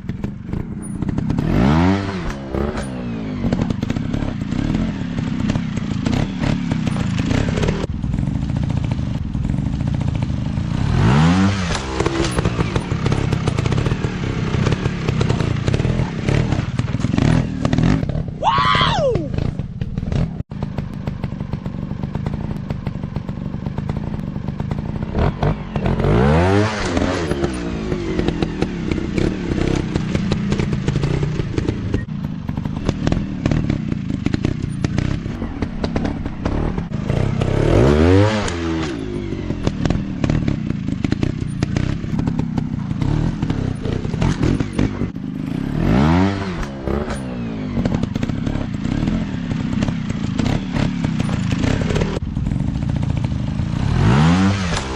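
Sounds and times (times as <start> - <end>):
dirt bike engines droning: 0.0 - 54.9
dirt bike revving: 0.0 - 54.9.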